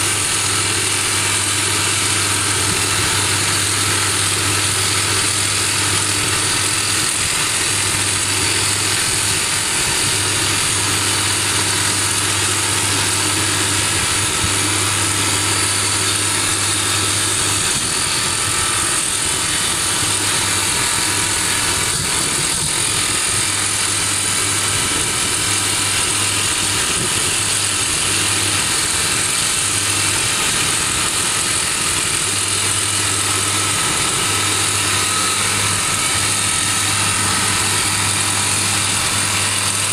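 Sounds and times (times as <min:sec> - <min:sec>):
drill rig drilling into rock: 0:00.0 - 0:39.9
low machine hum: 0:00.0 - 0:39.9.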